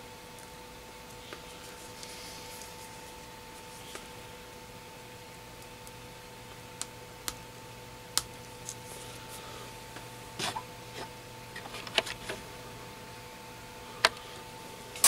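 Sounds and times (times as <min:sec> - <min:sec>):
faint hum with high whine: 0:00.0 - 0:15.0.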